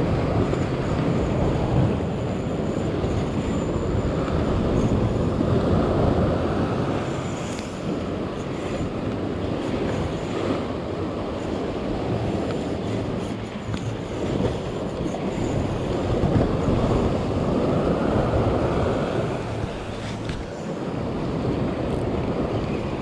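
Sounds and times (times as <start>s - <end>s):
sea surf rushing: 0.0s - 23.0s
wind buffeting microphone: 0.0s - 23.0s.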